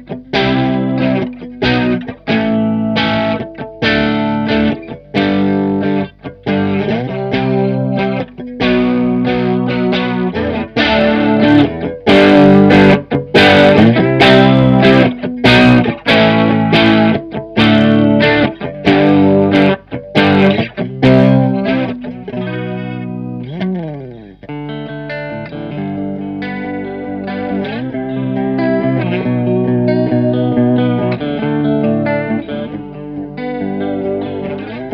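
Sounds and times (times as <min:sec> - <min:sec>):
guitar chord ringing with bending pitch: 0:00.0 - 0:34.9
overdriven electric guitar chords: 0:00.0 - 0:34.9.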